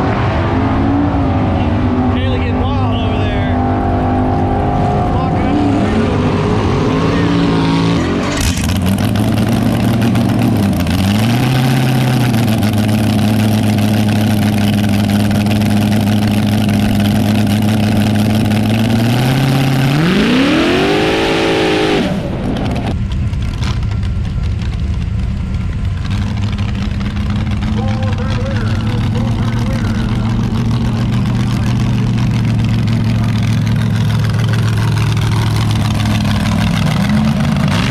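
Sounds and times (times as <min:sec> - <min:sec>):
racing car engine revving: 0:00.0 - 0:24.0, 0:25.9 - 0:37.9.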